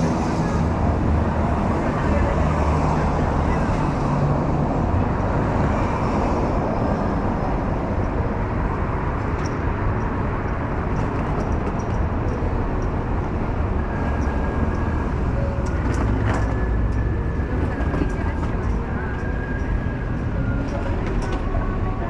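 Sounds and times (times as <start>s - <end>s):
city street noise: 0.0s - 22.0s.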